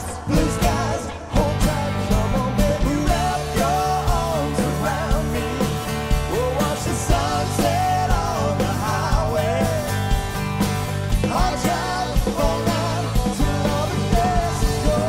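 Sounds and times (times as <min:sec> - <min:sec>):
drum kit beat: 0:00.0 - 0:15.0
electric guitars: 0:00.0 - 0:15.0
lead vocal singing: 0:00.0 - 0:15.0
strummed acoustic guitar: 0:00.0 - 0:15.0.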